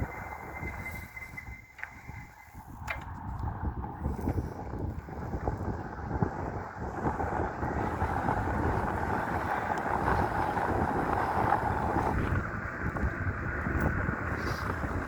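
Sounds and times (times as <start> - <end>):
electric bike rolling: 0.0 - 15.0
wind on microphone: 0.0 - 15.0.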